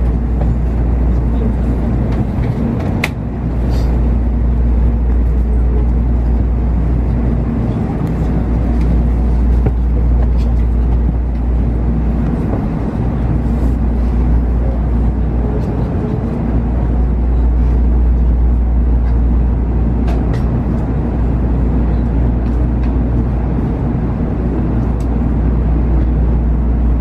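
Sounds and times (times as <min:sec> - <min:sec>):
train interior low rumble: 0:00.0 - 0:27.0.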